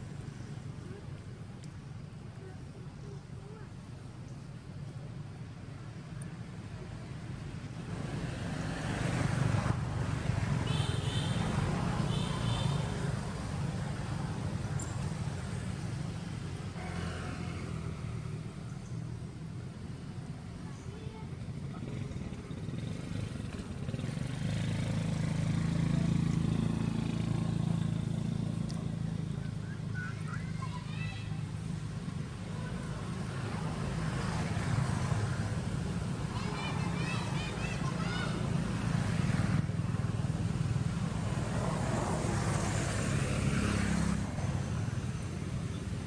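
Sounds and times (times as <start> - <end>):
vehicle engine humming: 0.0 - 46.0.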